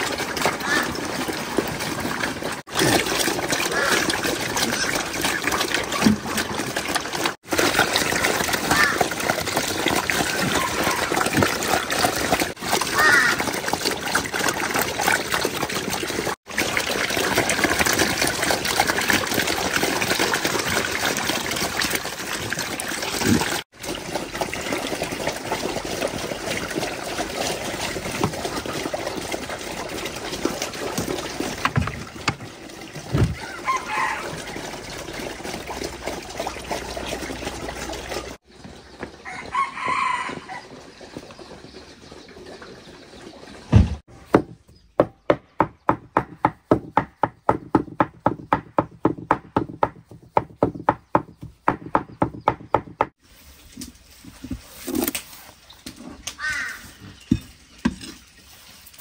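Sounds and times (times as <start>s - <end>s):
water running and splashing: 0.0s - 44.1s, 53.1s - 59.0s.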